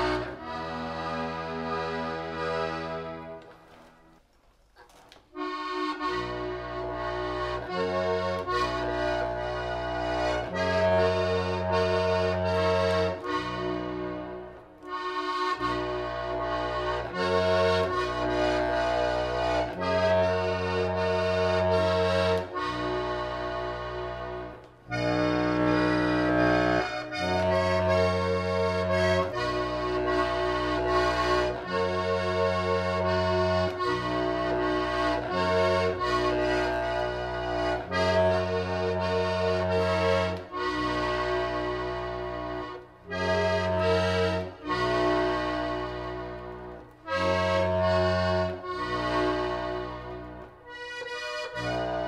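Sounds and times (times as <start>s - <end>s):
accordion music: 0.0s - 52.0s.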